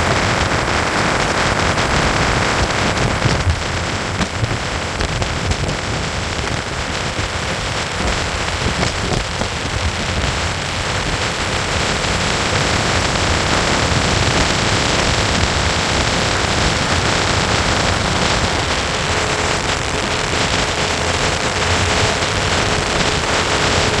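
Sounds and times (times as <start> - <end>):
heavy low rumble: 0.0 - 21.9
boat rushing through water: 0.0 - 24.0.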